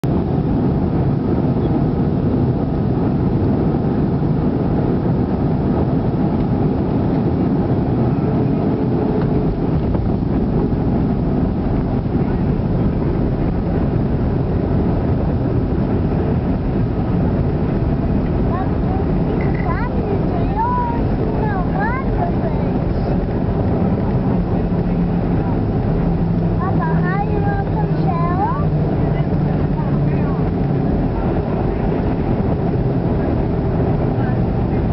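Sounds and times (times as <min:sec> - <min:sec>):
airplane cabin engine roar: 0:00.0 - 0:34.9.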